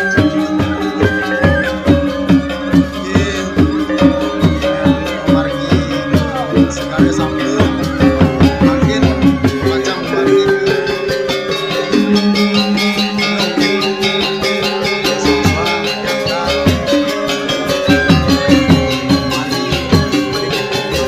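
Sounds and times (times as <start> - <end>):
fast percussive beat: 0.0 - 21.0
ringing metal-keyed instruments: 0.0 - 21.0.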